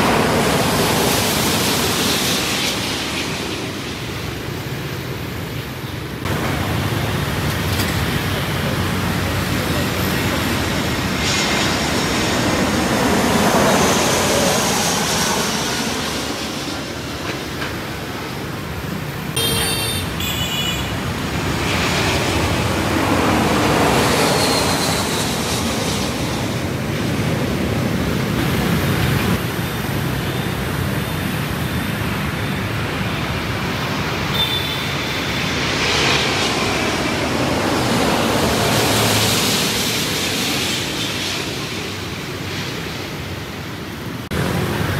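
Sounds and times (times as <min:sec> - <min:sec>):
jet airliners passing overhead: 0:00.0 - 0:44.9.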